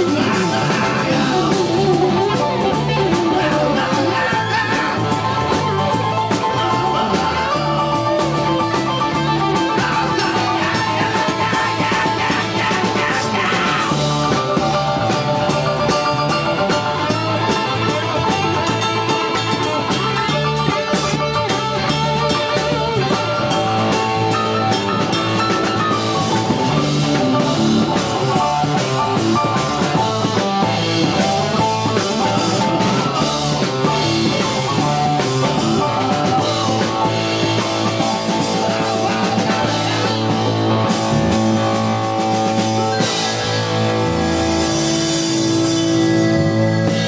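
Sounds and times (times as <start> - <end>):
rock music with drums and guitar: 0.0 - 47.0.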